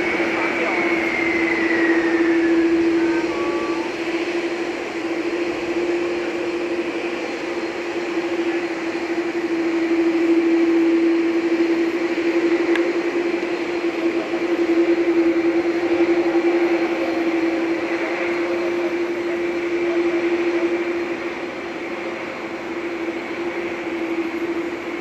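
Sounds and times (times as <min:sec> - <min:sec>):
falling engine whine: 0:00.0 - 0:25.0
jet engines roaring: 0:00.0 - 0:25.0.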